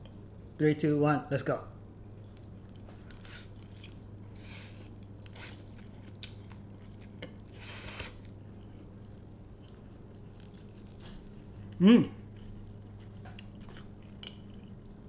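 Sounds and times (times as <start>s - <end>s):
steady low hum: 0.0s - 15.0s
person chewing noodles: 2.4s - 15.0s.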